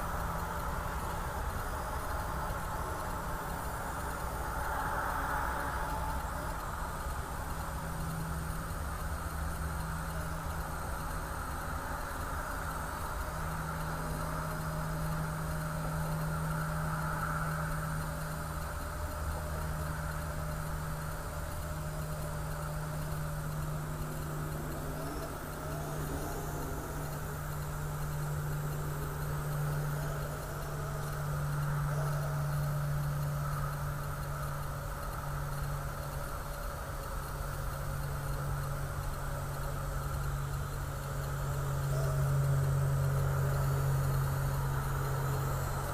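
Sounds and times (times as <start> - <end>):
drone propellers humming: 0.0 - 45.9.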